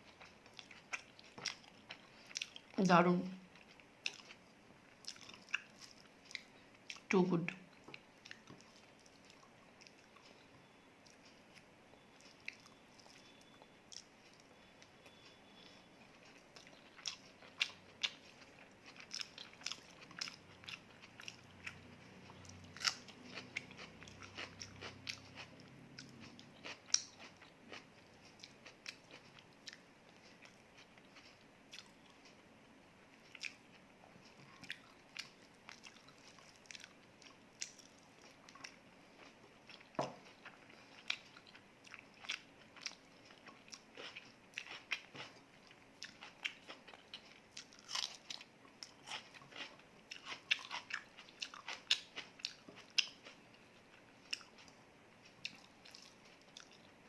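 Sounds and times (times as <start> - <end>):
person chewing and biting food: 0.1 - 2.7, 5.0 - 7.0, 12.0 - 32.4, 33.2 - 53.5, 54.2 - 56.9.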